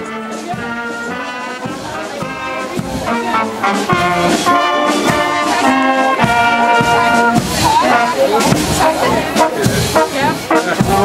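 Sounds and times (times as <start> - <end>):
marching brass band: 0.0 - 11.0.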